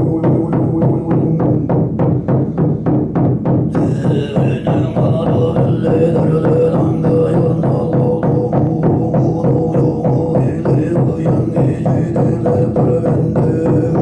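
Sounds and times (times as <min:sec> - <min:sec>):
throat singing drone: 0:00.0 - 0:02.9, 0:03.7 - 0:14.0
frame drum beating: 0:00.0 - 0:14.0.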